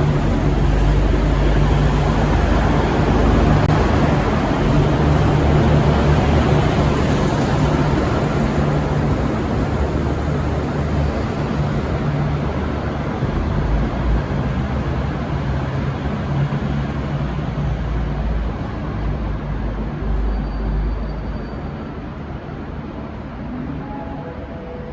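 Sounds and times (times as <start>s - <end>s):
diesel train rumbling: 0.0s - 24.9s.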